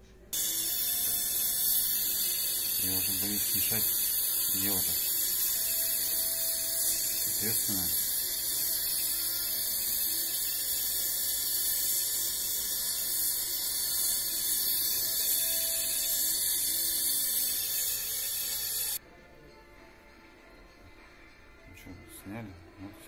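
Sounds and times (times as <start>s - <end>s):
gas torch flame hissing: 0.4s - 19.0s.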